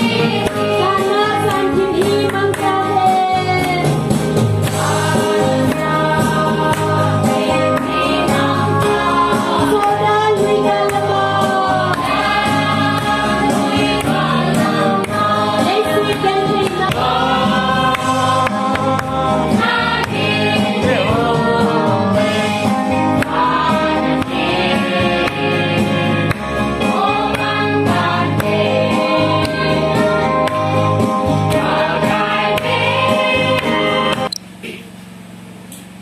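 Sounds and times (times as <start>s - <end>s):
congregation singing a hymn: 0.0s - 34.3s
electronic keyboard accompaniment: 0.0s - 34.4s.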